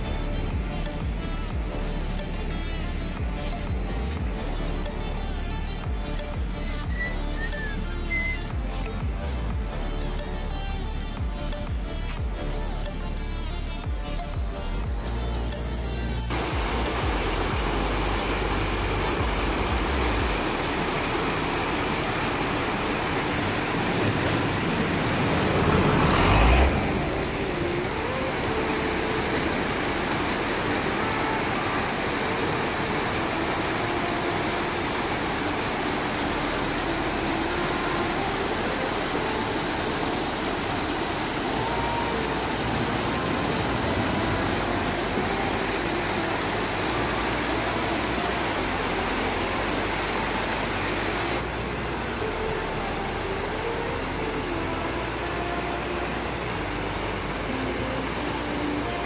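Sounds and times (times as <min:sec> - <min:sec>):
fast water rushing down channel: 0:00.0 - 0:59.0.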